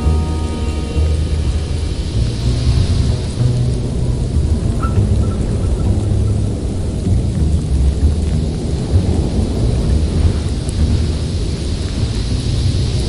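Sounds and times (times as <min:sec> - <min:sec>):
heavy rain hissing: 0:00.0 - 0:13.0
rumble of thunder: 0:00.0 - 0:13.0.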